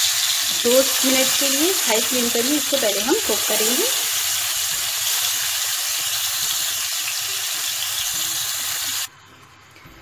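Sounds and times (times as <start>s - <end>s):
chicken sizzling in hot oil: 0.0s - 9.1s.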